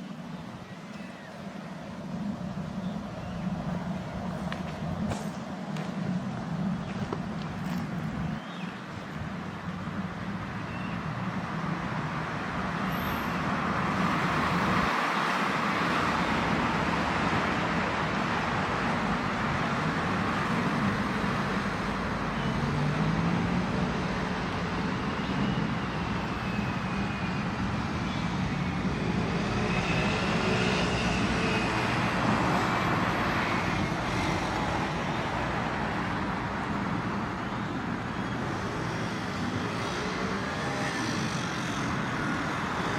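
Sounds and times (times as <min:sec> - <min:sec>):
road traffic noise: 0:00.0 - 0:42.9.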